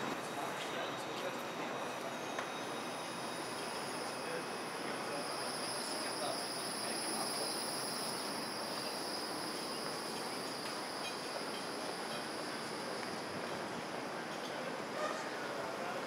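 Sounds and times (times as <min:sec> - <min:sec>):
high-pitched whine: 0:00.0 - 0:16.0
tram rolling past: 0:00.0 - 0:16.0.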